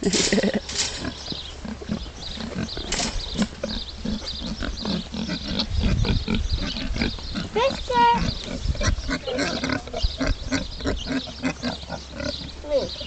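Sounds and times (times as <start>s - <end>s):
young pigs grunting: 0.0s - 13.0s.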